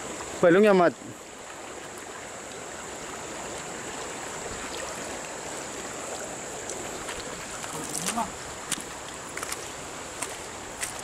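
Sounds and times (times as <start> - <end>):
flooded stream rushing: 0.0 - 11.0.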